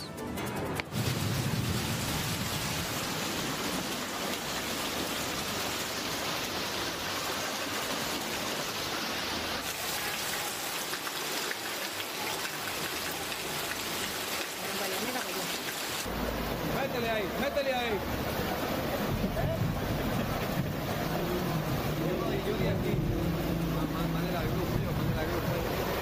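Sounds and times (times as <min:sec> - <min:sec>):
rain falling: 0:00.7 - 0:26.0.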